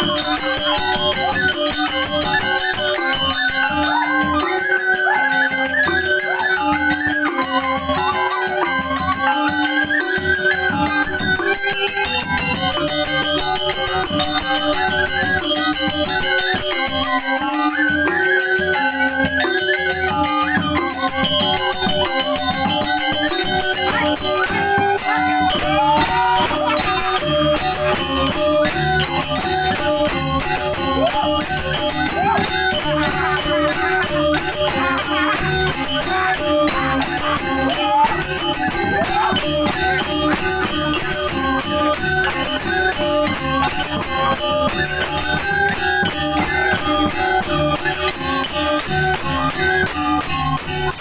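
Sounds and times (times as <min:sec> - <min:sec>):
gamelan ensemble music: 0:00.0 - 0:51.0.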